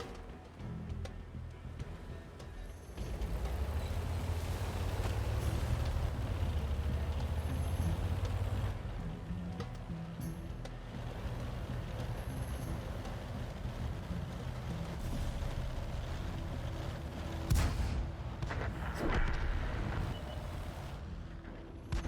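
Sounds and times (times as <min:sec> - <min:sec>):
steady low rumble: 0:00.3 - 0:22.0.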